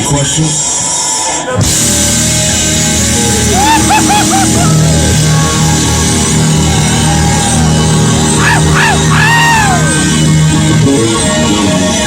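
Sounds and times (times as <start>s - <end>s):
blues rock band playing: 1.5s - 12.0s
electric guitar bent notes: 1.5s - 12.0s.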